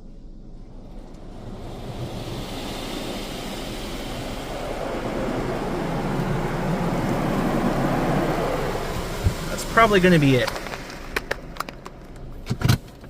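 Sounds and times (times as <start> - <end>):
water pouring over a car: 0.7 - 12.4.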